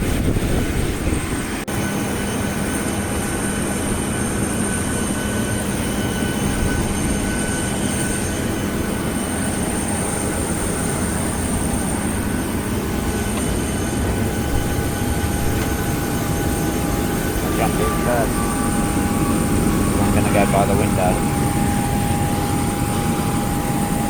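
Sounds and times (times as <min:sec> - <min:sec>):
faint whining tones: 0:04.7 - 0:24.0.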